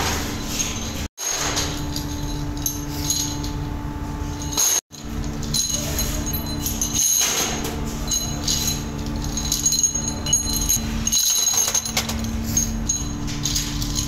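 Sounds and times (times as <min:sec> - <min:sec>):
steady machine hum: 0:00.8 - 0:14.0.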